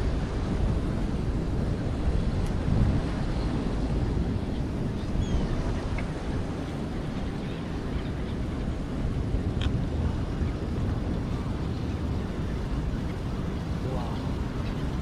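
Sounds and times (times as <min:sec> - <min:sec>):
sea waves on shore: 0:00.0 - 0:15.0
wind rumbling on microphone: 0:00.0 - 0:15.0.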